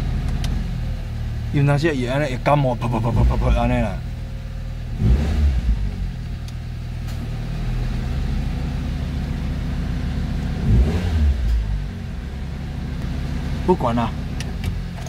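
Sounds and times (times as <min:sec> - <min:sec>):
car engine idling rough: 0:00.0 - 0:15.0.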